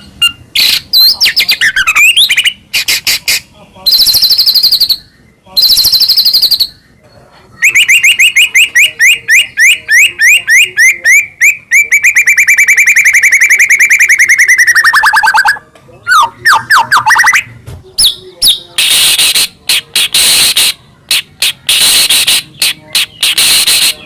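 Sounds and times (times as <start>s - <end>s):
bird song trills and rattle: 0.0s - 15.5s, 18.0s - 24.0s.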